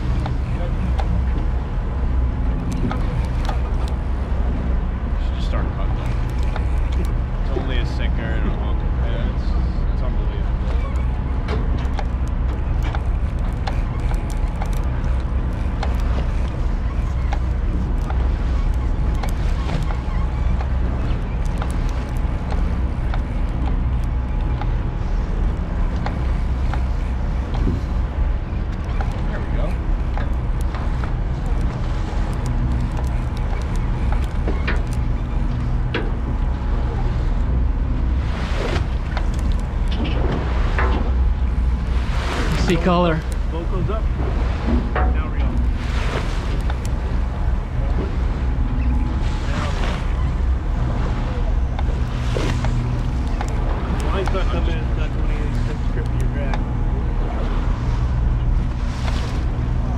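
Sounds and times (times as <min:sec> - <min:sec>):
boat engine rumble: 0:00.0 - 0:59.9
water splashing along hull: 0:00.0 - 0:59.9
wind on microphone: 0:00.0 - 0:59.9.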